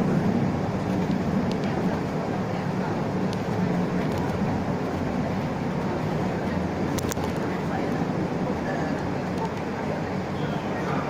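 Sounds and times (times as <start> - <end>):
bus diesel engine hum: 0.0 - 11.0
road noise: 0.0 - 11.0.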